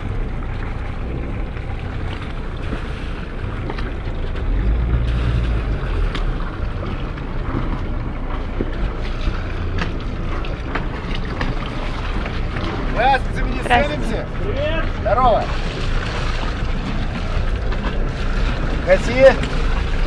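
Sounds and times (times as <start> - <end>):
water along hull: 0.0 - 20.0
wind buffeting microphone: 0.0 - 20.0.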